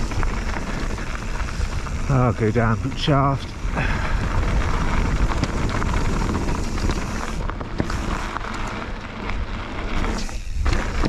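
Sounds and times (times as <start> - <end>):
bike rattling: 0.0 - 11.0
tyres rumbling over rocks and gravel: 0.0 - 11.0
wind buffeting microphone: 0.0 - 11.0.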